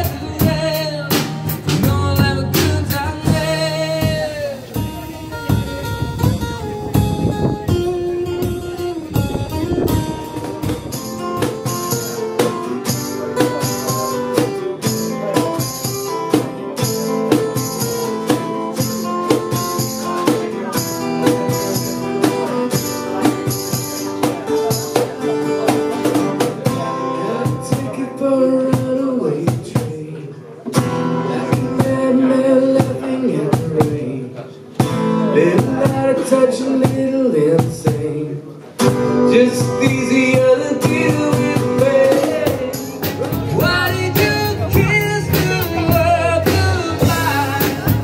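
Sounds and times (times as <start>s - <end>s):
acoustic guitars strumming: 0.0s - 48.0s
cajon beat: 0.0s - 48.0s.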